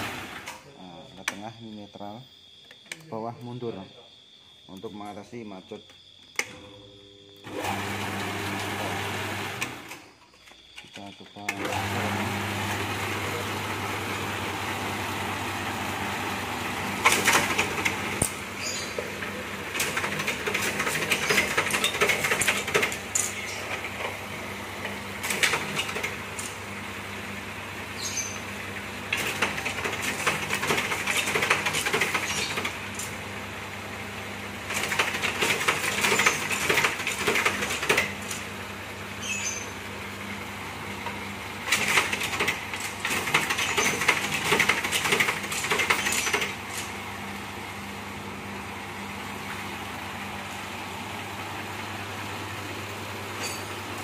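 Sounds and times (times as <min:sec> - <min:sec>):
machine motor humming: 0:06.4 - 0:10.0, 0:11.3 - 0:54.0.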